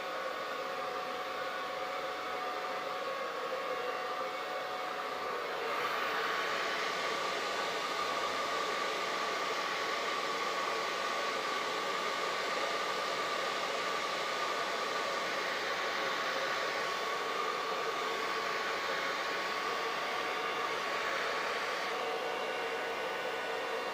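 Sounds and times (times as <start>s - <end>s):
hair dryer running: 0.0s - 23.9s.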